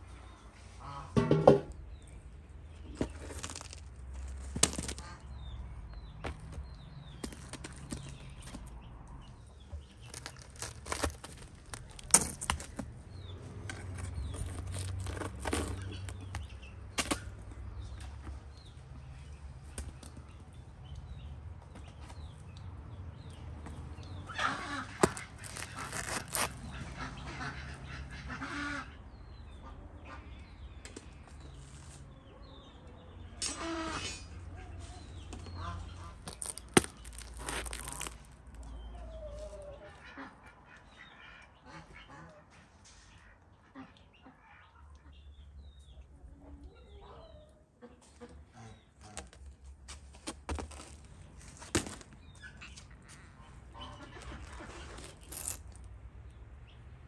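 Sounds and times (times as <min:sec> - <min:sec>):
birds calling: 0:00.0 - 0:46.0, 0:46.6 - 0:56.9.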